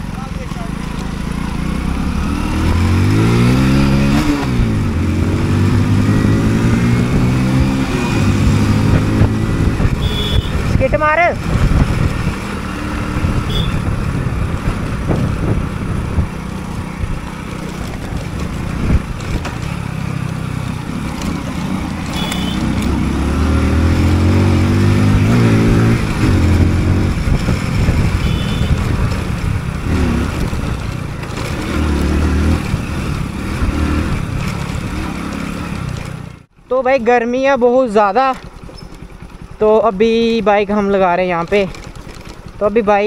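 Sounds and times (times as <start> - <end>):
motorcycle engine revving: 0.0 - 36.6, 37.5 - 43.0.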